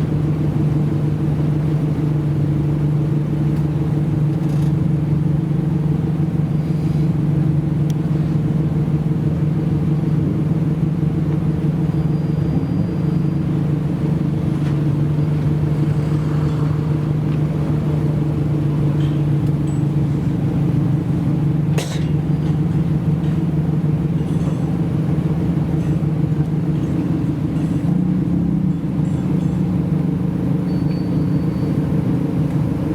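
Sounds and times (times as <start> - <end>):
car engine running steadily: 0.0 - 32.9.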